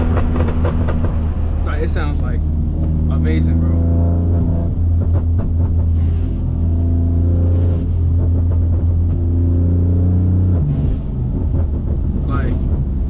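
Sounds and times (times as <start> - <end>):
deep car exhaust drone: 0.0 - 13.0.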